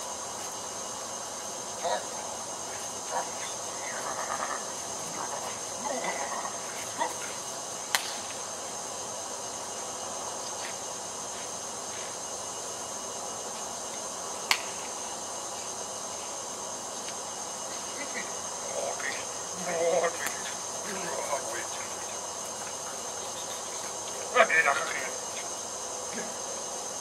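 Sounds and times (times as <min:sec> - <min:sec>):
background hiss: 0:00.0 - 0:27.0
high-pitched whine: 0:00.0 - 0:27.0.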